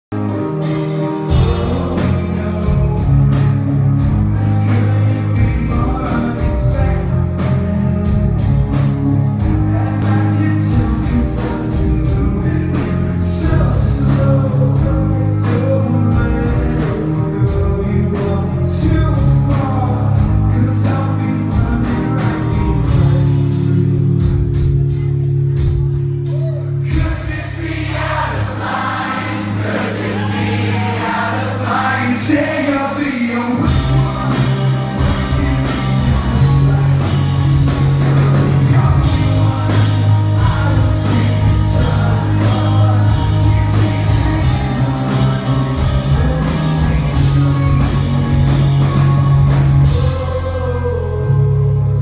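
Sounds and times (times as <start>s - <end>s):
bass: 0.0s - 52.0s
drums: 0.1s - 52.0s
electric guitars: 0.1s - 52.0s
person singing: 0.3s - 24.6s, 26.2s - 52.0s.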